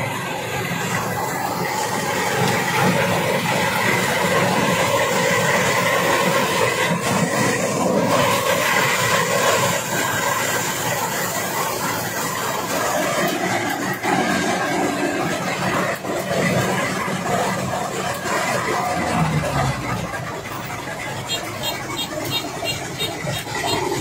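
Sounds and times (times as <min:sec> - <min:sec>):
combine harvester running: 0:00.0 - 0:24.0.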